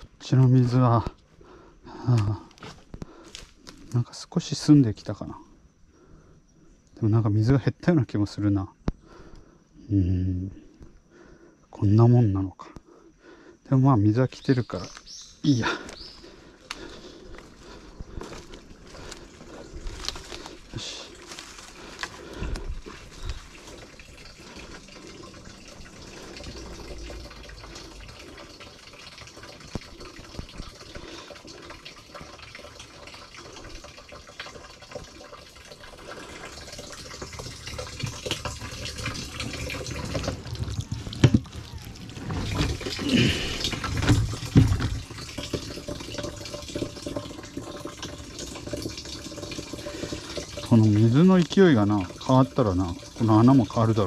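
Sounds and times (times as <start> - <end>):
water trickling into a tank: 0.0 - 12.6, 13.3 - 54.0.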